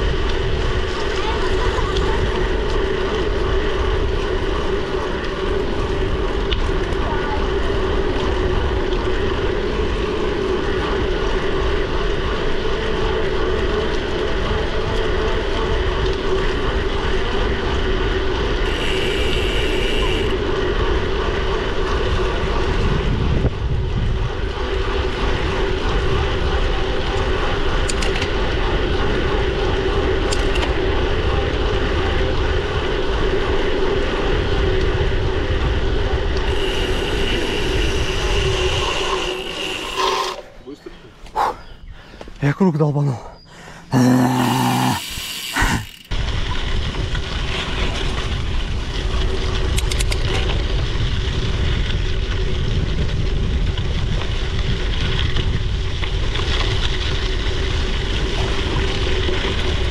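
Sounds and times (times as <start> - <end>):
wind rumble on microphone: 0.0 - 42.4, 45.8 - 59.9
bicycle riding hum: 0.0 - 59.9.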